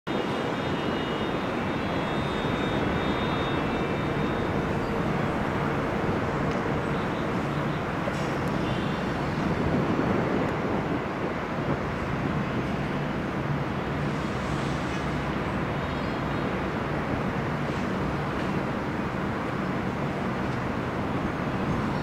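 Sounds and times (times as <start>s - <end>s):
city noise: 0.0s - 22.0s
distant train rumbling: 0.8s - 22.0s.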